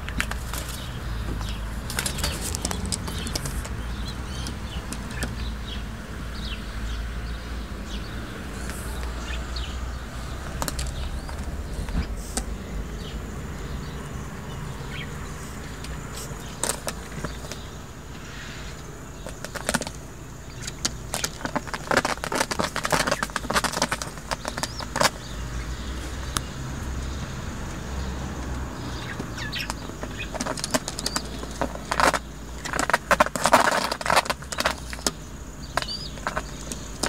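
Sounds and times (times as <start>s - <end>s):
pigeons scuffling on wooden board: 0.0s - 5.8s, 8.5s - 13.1s, 14.8s - 18.4s, 19.2s - 26.4s, 27.0s - 37.0s.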